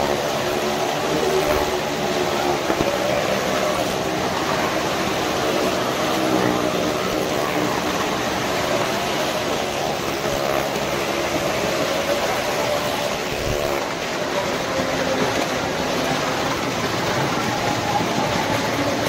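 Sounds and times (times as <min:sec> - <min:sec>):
car and motorcycle engines revving: 0:00.0 - 0:19.0.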